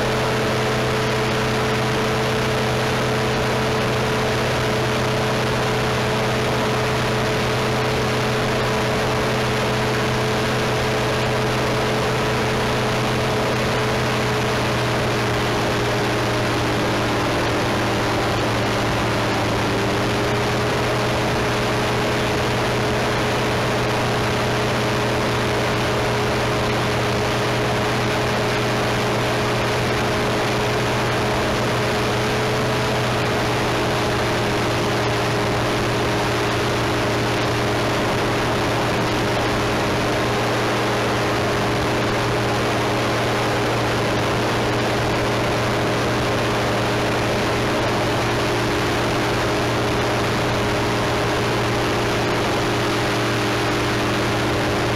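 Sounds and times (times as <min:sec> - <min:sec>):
constant rush of noise: 0:00.0 - 0:54.9
small aircraft engine and propeller: 0:00.0 - 0:54.9.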